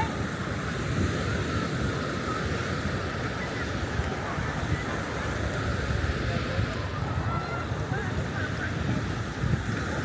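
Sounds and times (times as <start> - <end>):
surf washing: 0.0 - 10.0
wind buffeting microphone: 0.0 - 10.0.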